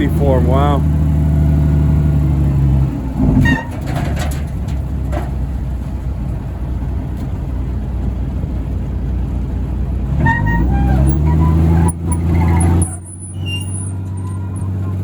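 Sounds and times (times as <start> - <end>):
truck engine rumbling under load: 0.0 - 15.0.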